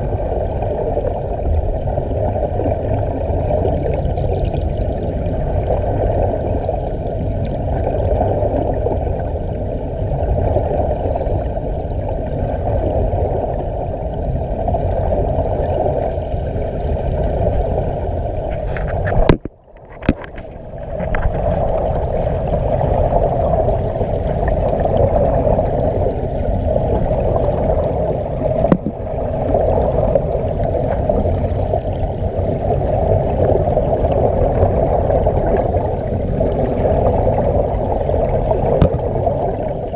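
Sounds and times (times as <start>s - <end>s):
underwater air bubbling: 0.0s - 39.9s.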